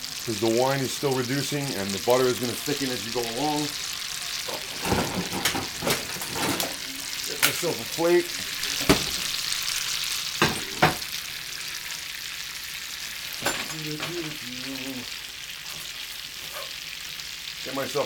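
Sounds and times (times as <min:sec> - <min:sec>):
sauce sizzling and bubbling: 0:00.0 - 0:18.0.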